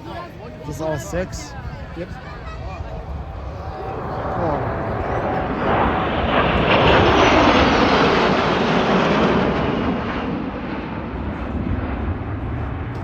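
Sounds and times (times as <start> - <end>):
fighter jets passing: 0.0 - 13.0.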